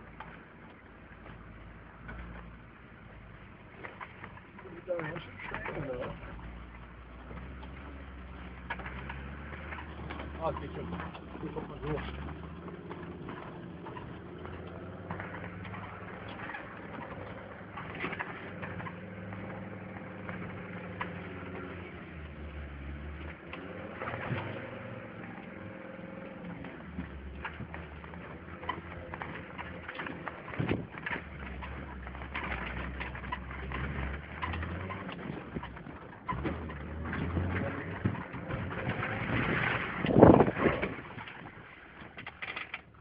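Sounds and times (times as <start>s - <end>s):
diesel engine running: 0.0s - 43.0s
vehicle body rattling and knocking: 0.0s - 43.0s.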